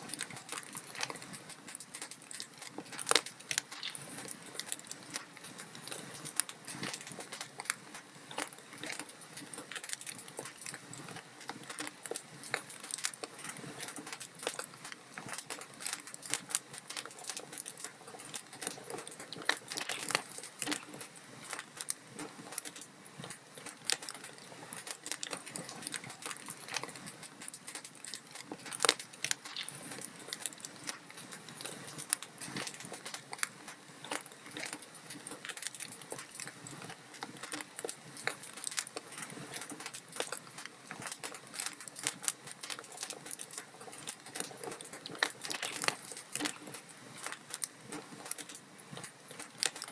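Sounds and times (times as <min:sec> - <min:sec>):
log fire crackling: 0:00.0 - 0:49.9.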